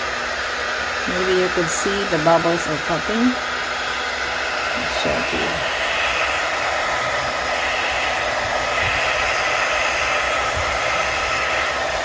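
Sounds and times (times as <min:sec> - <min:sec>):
heat gun blowing air: 0:00.0 - 0:12.0.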